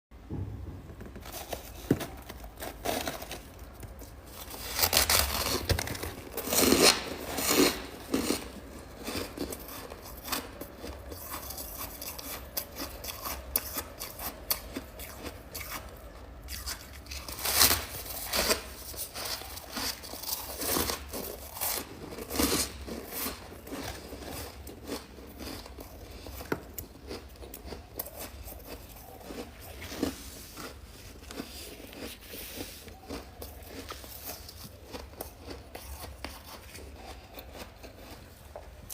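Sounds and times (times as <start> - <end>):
freezer frost scraped and crunching: 1.1 - 38.9.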